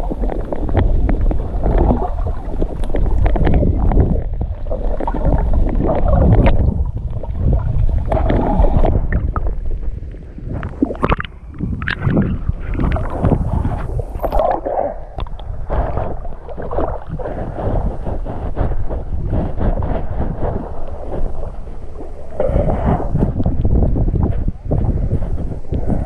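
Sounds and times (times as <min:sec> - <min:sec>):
water sloshing and gurgling: 0:00.0 - 0:26.0
water splashes: 0:00.0 - 0:26.0.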